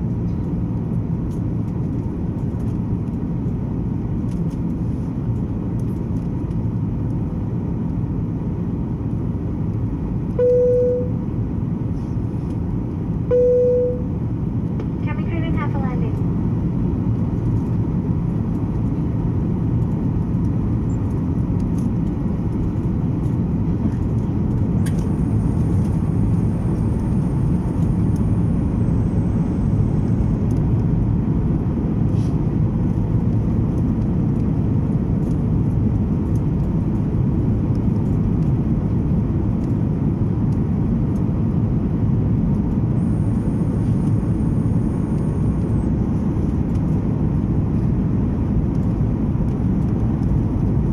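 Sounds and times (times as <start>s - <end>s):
jet airliner cabin noise: 0.0s - 50.9s.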